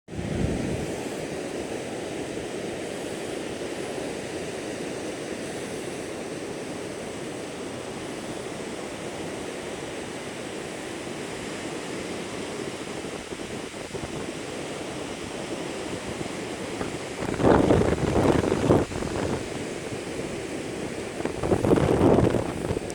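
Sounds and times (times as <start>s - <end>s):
ocean surf rushing: 0.1s - 22.9s
wind: 0.1s - 22.9s.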